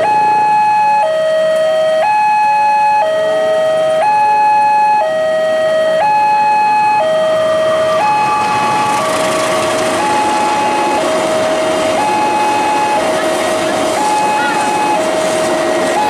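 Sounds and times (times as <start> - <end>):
two-tone crossing alarm: 0.0 - 16.0.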